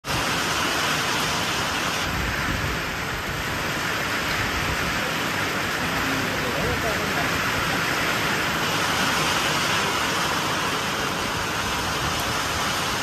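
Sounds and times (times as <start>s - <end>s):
heavy rain on waterlogged street: 0.0s - 13.0s.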